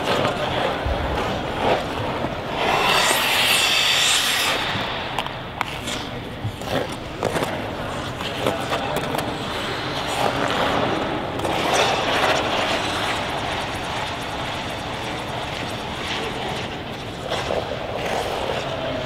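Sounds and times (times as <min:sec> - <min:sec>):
skate blades scraping ice: 0:00.0 - 0:19.0.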